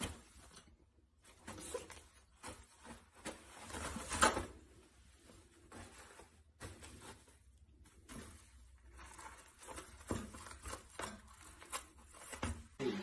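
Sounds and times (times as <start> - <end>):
paper rustling: 0.0 - 12.8.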